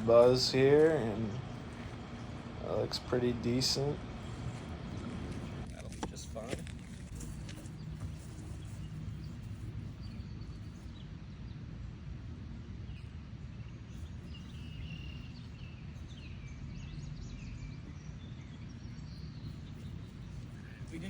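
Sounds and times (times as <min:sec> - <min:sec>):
small birds chirping faintly: 0:00.0 - 0:21.0.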